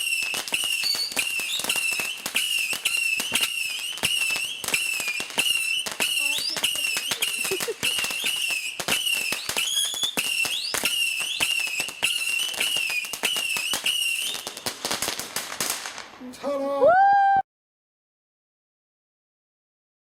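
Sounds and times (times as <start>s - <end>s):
whistling fireworks screeching: 0.0s - 16.0s
fireworks bangs and crackling: 0.0s - 16.3s.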